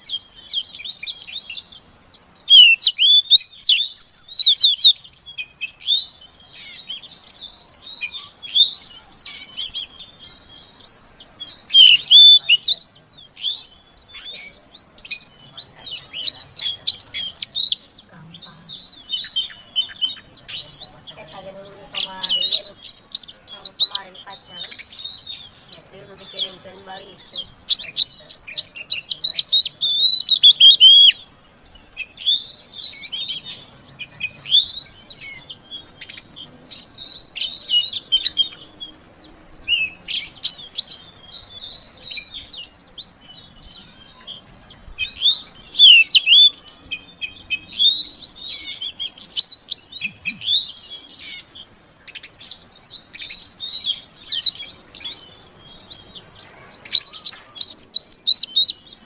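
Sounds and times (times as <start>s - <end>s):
bird chirping and whistling: 0.0s - 59.0s.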